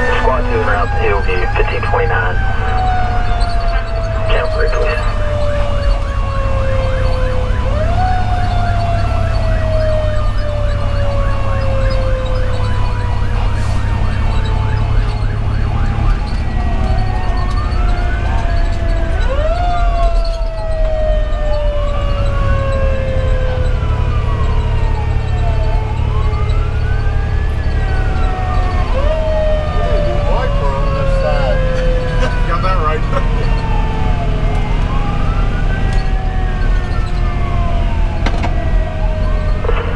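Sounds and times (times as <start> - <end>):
diesel engine drone: 0.0 - 39.9
electronic siren wailing: 0.0 - 39.9.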